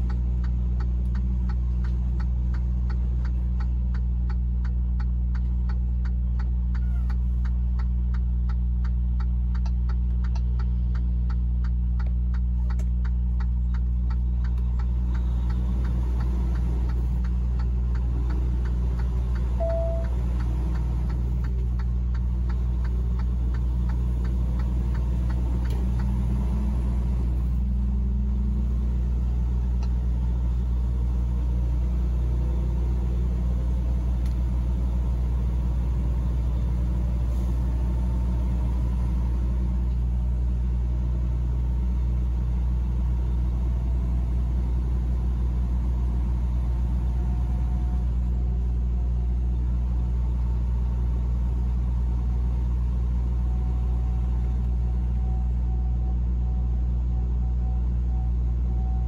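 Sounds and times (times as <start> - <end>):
truck engine and road noise: 0.0 - 59.0.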